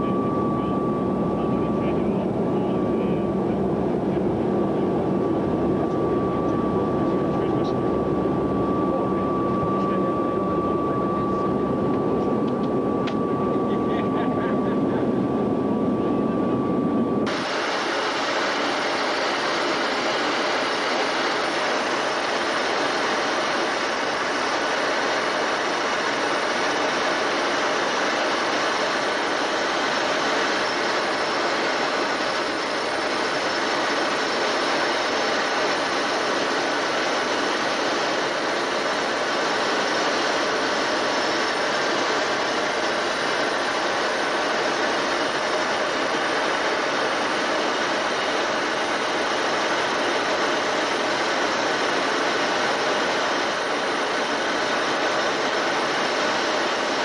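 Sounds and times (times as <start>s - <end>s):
jet cockpit engine and airflow noise: 0.0s - 57.0s.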